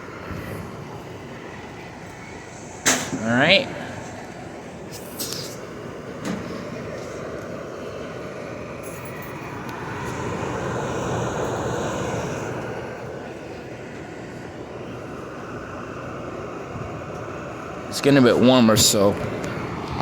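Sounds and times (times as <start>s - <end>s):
dehumidifier fan and compressor hum: 0.0s - 20.0s.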